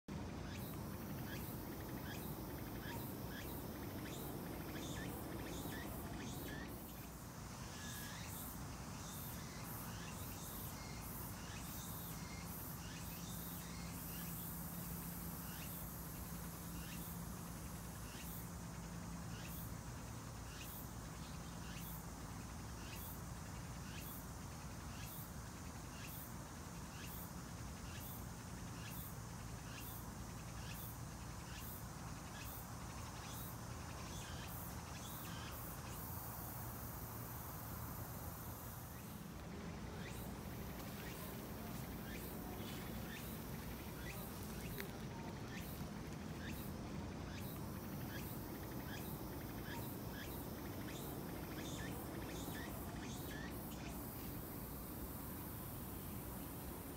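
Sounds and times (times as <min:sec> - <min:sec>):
insects calling in high-pitched pulses: 0:00.1 - 0:56.9.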